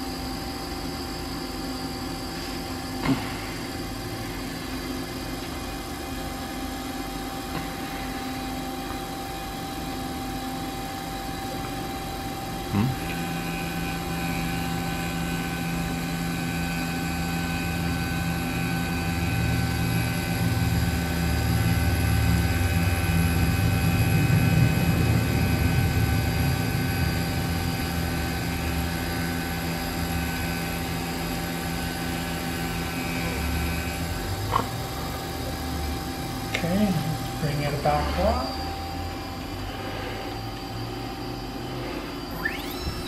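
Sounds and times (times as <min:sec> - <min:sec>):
milling machine spindle whine: 0:00.0 - 0:43.0.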